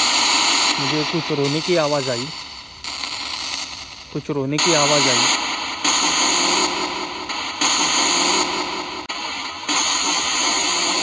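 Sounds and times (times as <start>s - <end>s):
choppy radio static: 0.0s - 11.0s.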